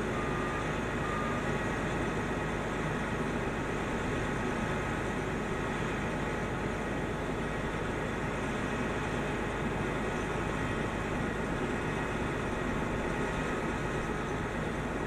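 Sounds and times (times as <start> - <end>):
heavy equipment engine running: 0.0 - 15.0.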